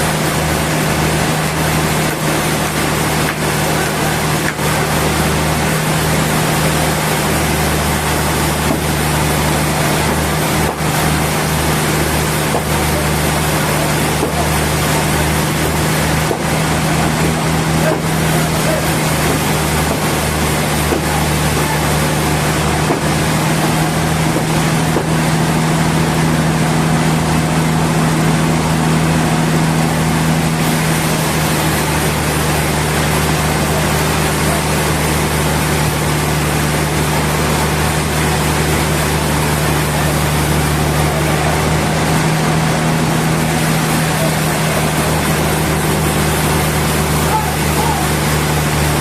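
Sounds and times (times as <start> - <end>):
sawmill machinery hum: 0.0 - 49.0.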